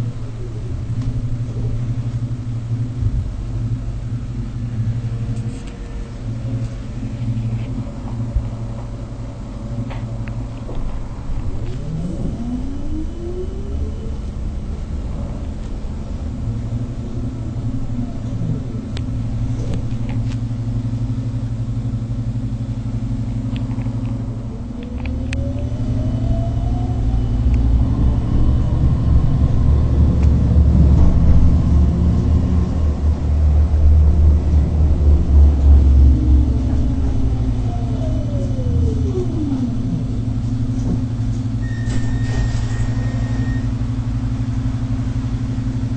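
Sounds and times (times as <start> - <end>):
traction motor whine: 0.0 - 45.9
tram running gear rumble: 0.0 - 45.9.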